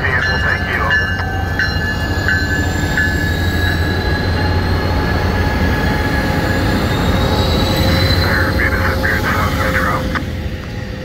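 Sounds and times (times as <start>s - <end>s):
train passing with loud rumble: 0.0s - 11.0s.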